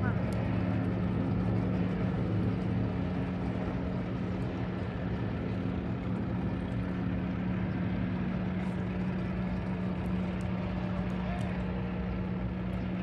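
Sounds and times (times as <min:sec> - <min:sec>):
outboard motors running: 0:00.0 - 0:13.0.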